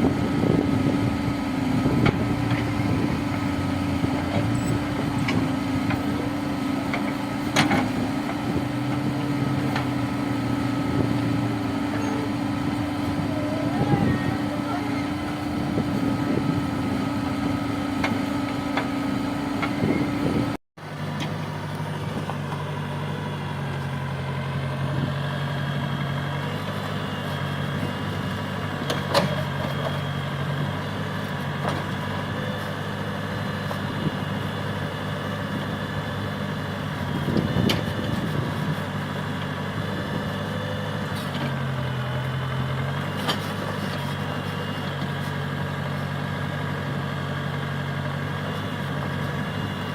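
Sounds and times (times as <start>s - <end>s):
earthmoving machine diesel engine: 0.0s - 49.9s.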